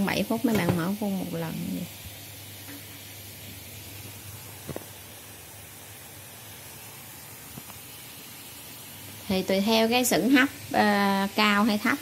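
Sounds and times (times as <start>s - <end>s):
gas burner noise: 0.0s - 12.0s
steamer pot hissing: 0.0s - 12.0s.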